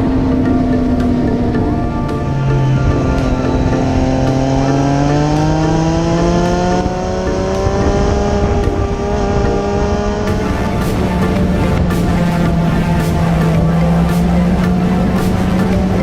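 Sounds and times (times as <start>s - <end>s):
low noise rush: 0.0s - 16.0s
motorcycle engine accelerating: 0.0s - 16.0s.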